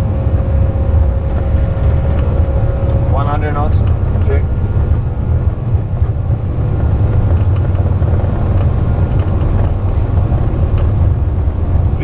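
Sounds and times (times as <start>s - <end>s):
jet engines rumbling at takeoff: 0.0s - 12.0s.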